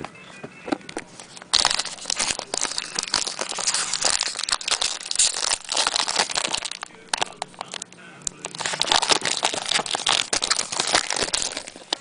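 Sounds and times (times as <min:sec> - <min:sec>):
wrapper tearing and crinkling: 0:01.3 - 0:12.0.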